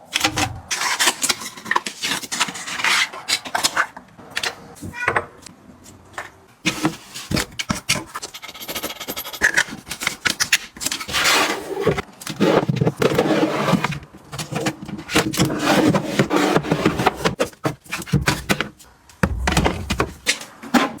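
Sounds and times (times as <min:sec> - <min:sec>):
objects scraping and rubbing: 0:00.0 - 0:04.8, 0:05.7 - 0:21.0.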